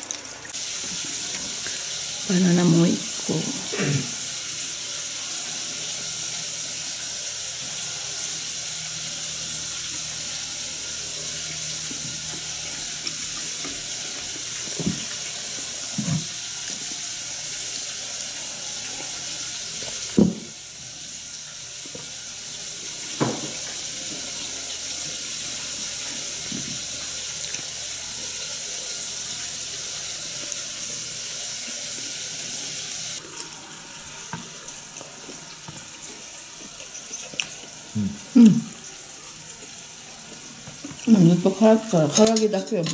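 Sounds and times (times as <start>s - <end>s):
steady hissing noise: 0.0s - 42.9s.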